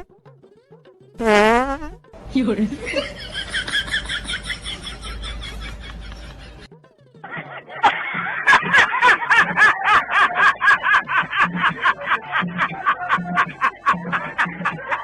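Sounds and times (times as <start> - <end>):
rhythmic laughter: 2.6 - 15.0.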